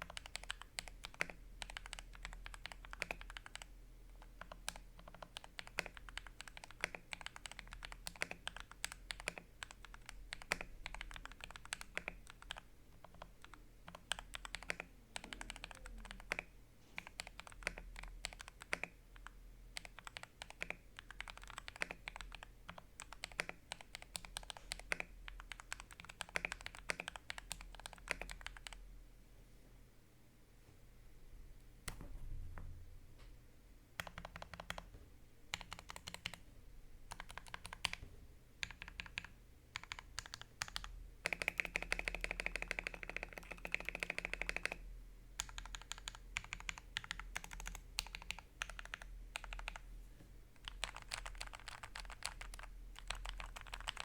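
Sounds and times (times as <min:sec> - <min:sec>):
mechanical keyboard typing: 0:00.0 - 0:28.8, 0:34.0 - 0:34.9, 0:35.5 - 0:36.4, 0:37.1 - 0:38.0, 0:38.6 - 0:44.8, 0:45.4 - 0:49.8, 0:50.6 - 0:54.0.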